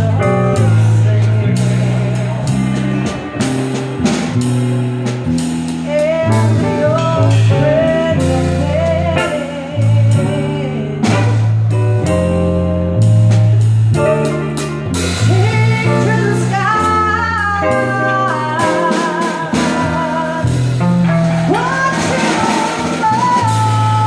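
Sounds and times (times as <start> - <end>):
woman singing jazz: 0.0 - 4.2, 5.7 - 24.0
bass notes: 0.0 - 24.0
drum kit and cymbals: 0.0 - 24.0
guitar: 0.0 - 24.0.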